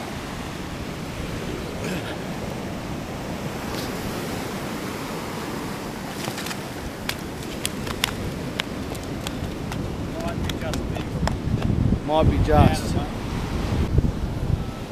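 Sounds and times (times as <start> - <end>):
surf washing over sand: 0.0 - 14.9.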